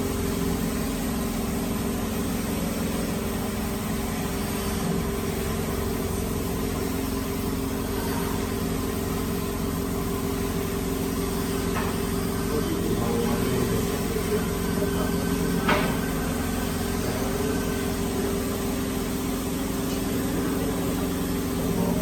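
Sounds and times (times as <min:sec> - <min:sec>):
electric machine motor humming: 0:00.0 - 0:22.0.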